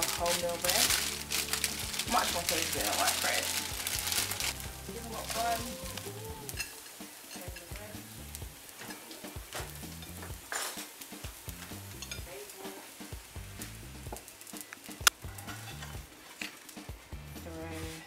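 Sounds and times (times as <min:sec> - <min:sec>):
burgers sizzling in oil: 0:00.0 - 0:18.0.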